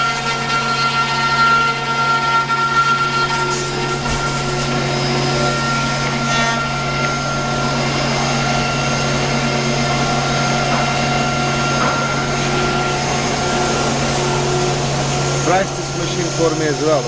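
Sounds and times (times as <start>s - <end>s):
router machine hum: 0.0s - 17.0s
whining tones: 0.0s - 17.0s.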